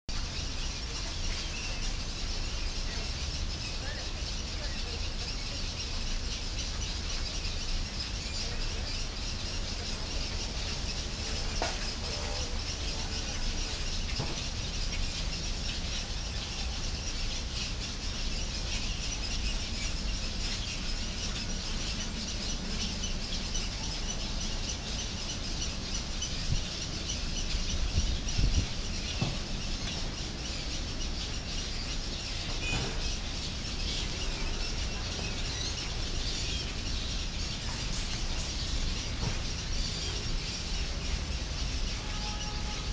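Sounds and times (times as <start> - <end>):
many birds calling: 0.1 - 42.9.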